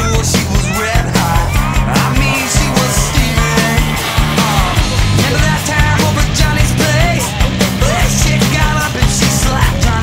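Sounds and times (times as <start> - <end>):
rock music with steady beat: 0.0 - 10.0.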